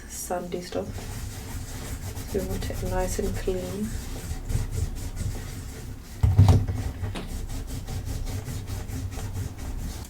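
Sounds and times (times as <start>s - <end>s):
soft rubbing strokes: 0.0s - 10.0s.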